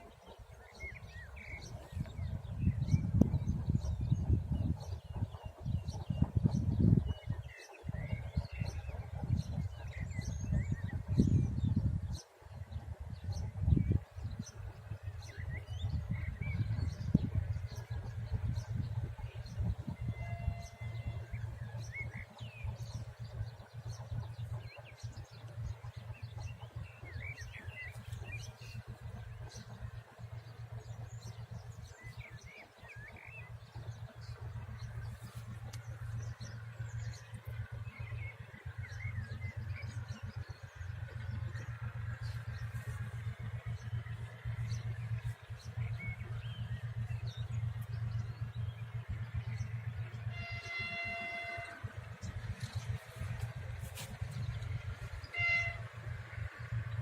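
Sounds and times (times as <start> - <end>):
small birds chirping: 0.0 - 55.9
fluttering low rumble: 0.0 - 57.0
wind buffeting microphone: 0.0 - 57.0.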